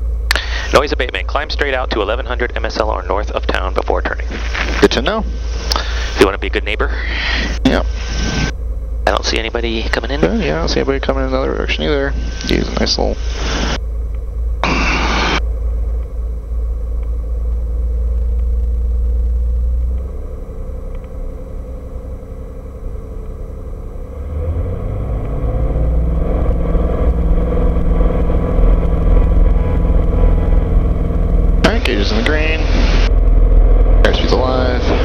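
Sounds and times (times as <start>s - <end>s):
propeller aircraft engine: 0.0s - 35.0s.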